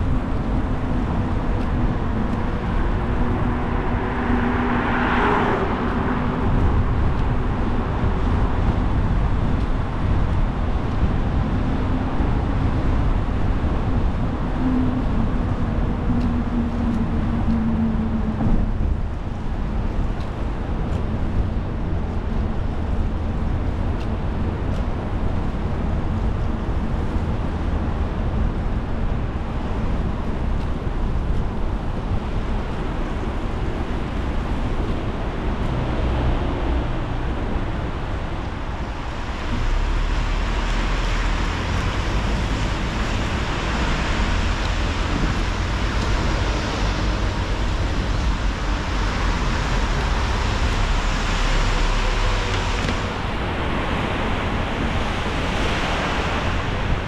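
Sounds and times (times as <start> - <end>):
road rumble inside car: 0.0 - 57.0.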